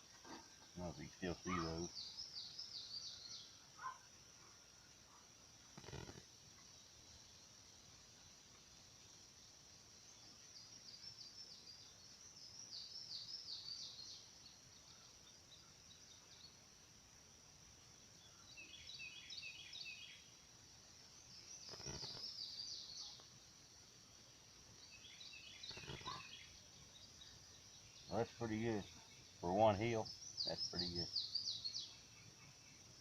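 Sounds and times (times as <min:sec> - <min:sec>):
high insect hum: 0:00.0 - 0:33.0
songbird chirping: 0:00.0 - 0:33.0.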